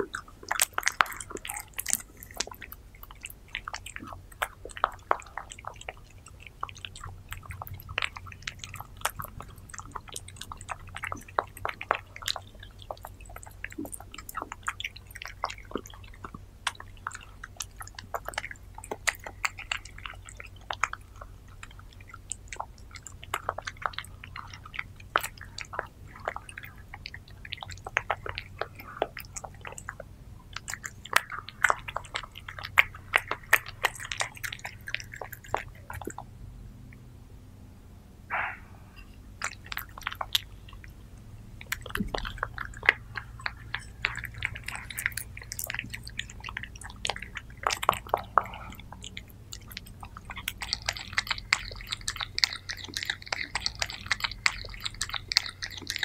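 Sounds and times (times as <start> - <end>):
cats chewing food: 0.0 - 37.3, 38.3 - 56.0.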